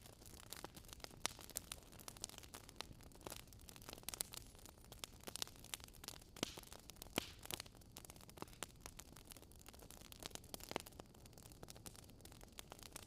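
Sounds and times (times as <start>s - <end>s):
crackling wood fire: 0.0s - 13.0s.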